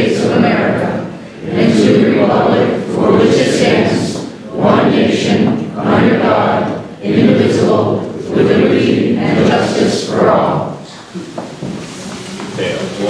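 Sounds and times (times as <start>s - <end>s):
people speaking in unison: 0.0s - 11.4s.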